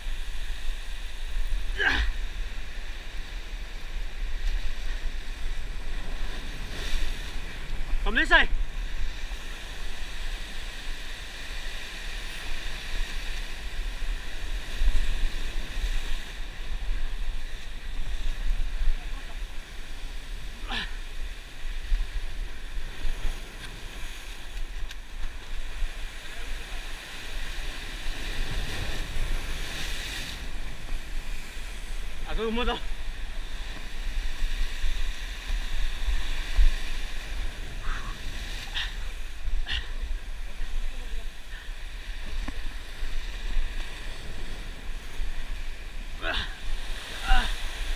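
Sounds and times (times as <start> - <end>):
surf breaking on rocks: 0.2 - 47.9.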